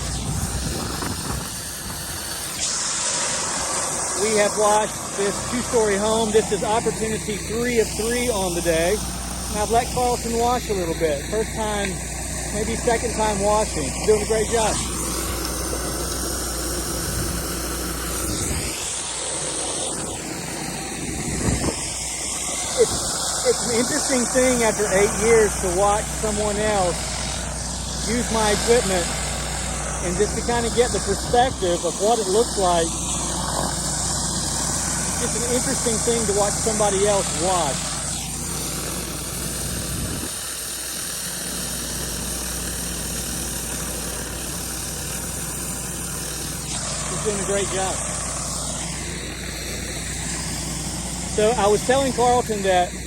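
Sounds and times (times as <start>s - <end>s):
pressure washer engine hum: 0.0s - 53.0s
water spray hissing: 0.0s - 53.0s.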